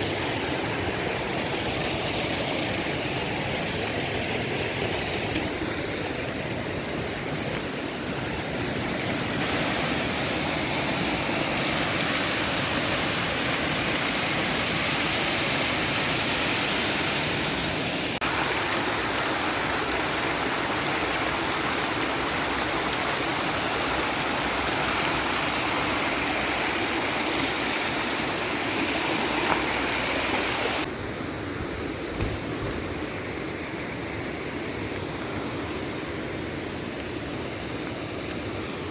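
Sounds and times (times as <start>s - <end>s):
heavy rain: 0.0s - 38.9s
running water: 0.0s - 38.9s.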